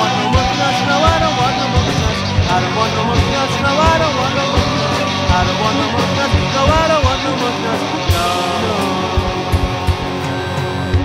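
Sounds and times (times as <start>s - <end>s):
drum kit beat: 0.0s - 11.0s
electric guitar phrases: 0.0s - 11.0s.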